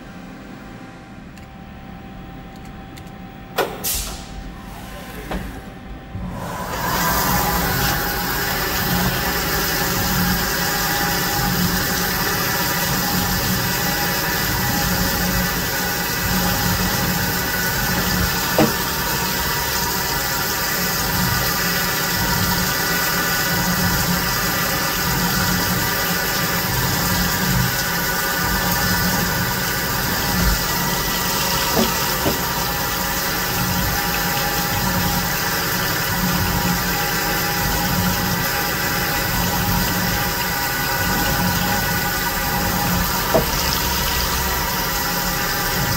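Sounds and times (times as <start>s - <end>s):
milling machine cutting metal: 6.5s - 45.9s.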